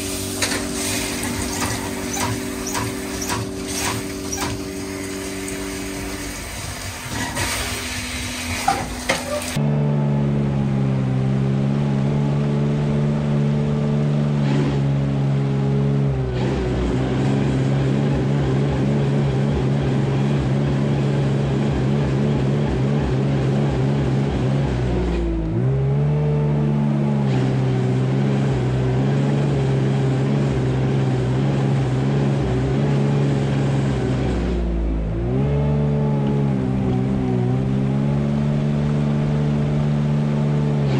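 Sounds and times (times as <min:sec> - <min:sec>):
wheel loader diesel engine: 0:00.0 - 0:40.9.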